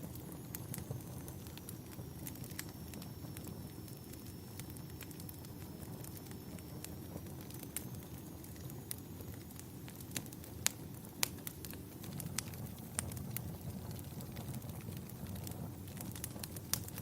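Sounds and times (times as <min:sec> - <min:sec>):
burning wood crackling and popping: 0:00.0 - 0:17.0
campfire flames rumbling: 0:00.0 - 0:17.0.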